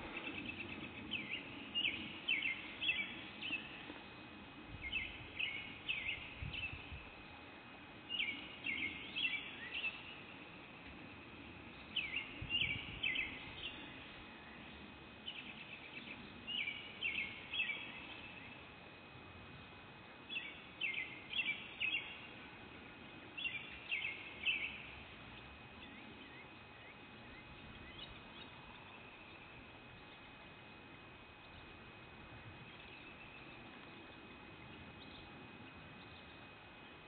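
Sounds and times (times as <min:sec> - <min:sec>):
faint outdoor rumble: 0:00.0 - 0:37.0
songbird singing: 0:00.0 - 0:37.0.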